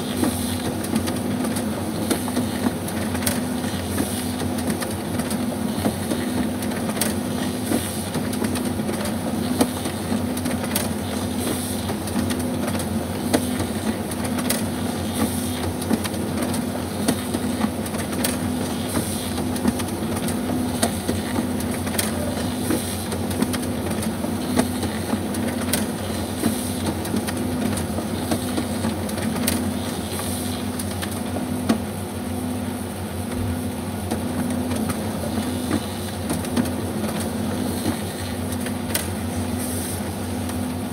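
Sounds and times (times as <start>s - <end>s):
printer pulsing mechanical hum: 0.0s - 40.9s
paper feed clicks: 0.1s - 31.9s, 33.2s - 40.9s.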